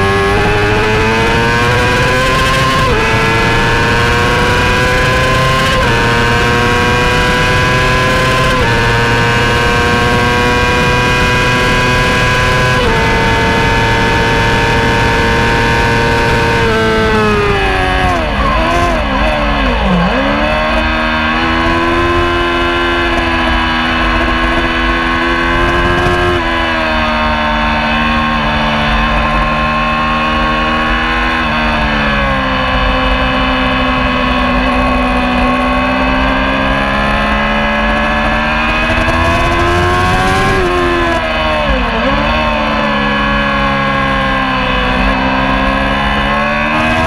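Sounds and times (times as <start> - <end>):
racing motorcycle engine: 0.0 - 47.0
rushing wind: 0.0 - 47.0.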